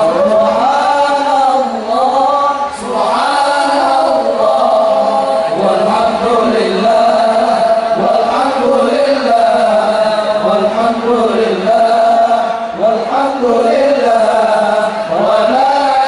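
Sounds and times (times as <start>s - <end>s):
voices chanting together: 0.0s - 16.0s.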